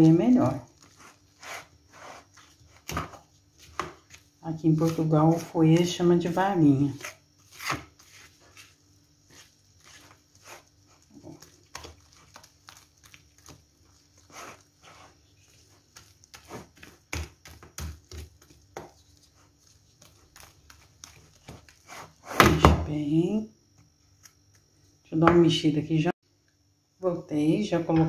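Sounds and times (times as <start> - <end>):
spoon stirring thick batter: 0.0 - 23.0.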